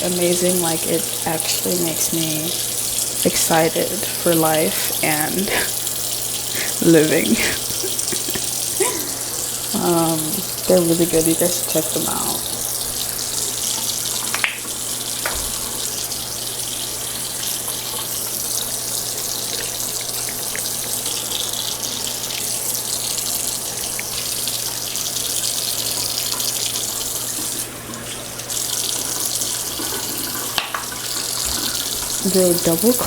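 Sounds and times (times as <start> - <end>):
face being washed: 0.0 - 33.0
sink tap running: 0.0 - 33.0.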